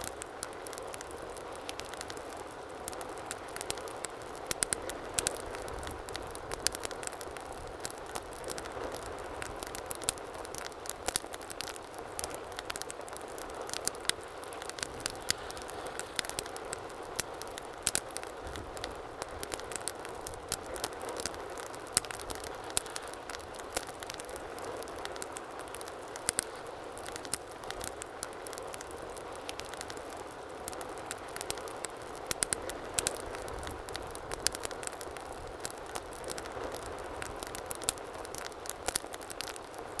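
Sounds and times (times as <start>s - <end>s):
fire crackling: 0.0s - 40.0s
fire popping and snapping: 0.0s - 40.0s
low rush of flame: 0.1s - 40.0s.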